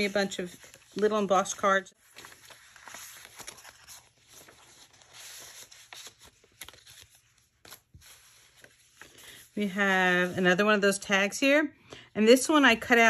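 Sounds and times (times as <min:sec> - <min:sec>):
paper rustling and crinkling: 0:00.0 - 0:10.5.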